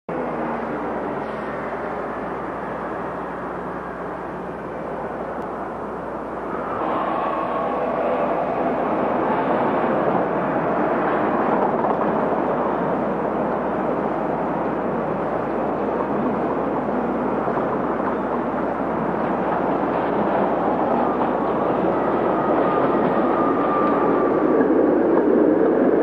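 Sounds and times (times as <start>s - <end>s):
street traffic rumble: 0.1s - 26.0s.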